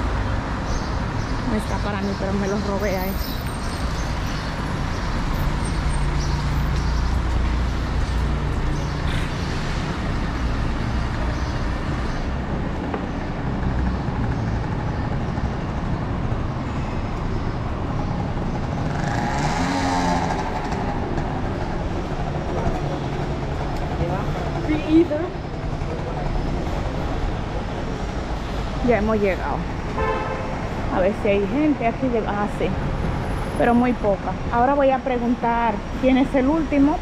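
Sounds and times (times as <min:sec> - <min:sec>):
cars driving past: 0:00.0 - 0:37.0.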